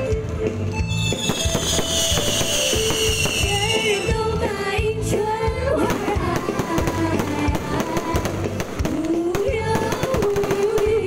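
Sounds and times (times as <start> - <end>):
loud music: 0.0 - 11.0
fireworks bangs and crackles: 0.9 - 11.0.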